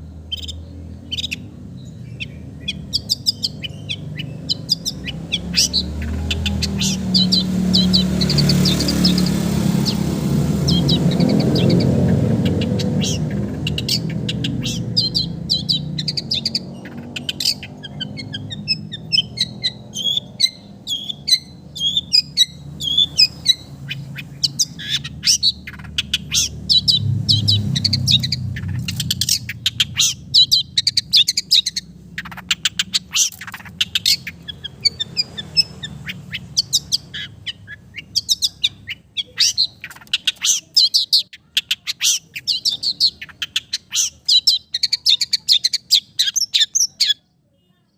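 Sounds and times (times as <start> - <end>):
bird singing high chirps and trills: 0.0 - 47.9.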